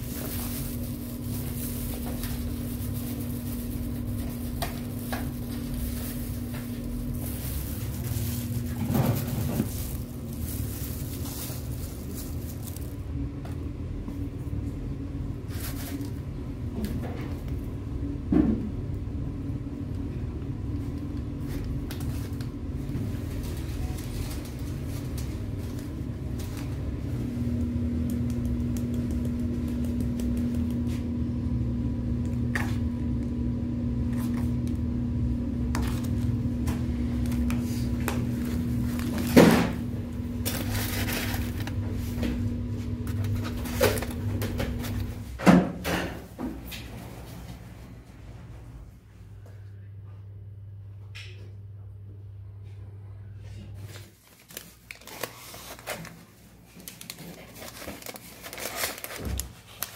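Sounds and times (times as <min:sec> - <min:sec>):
electric appliance hum: 0:00.0 - 0:59.9.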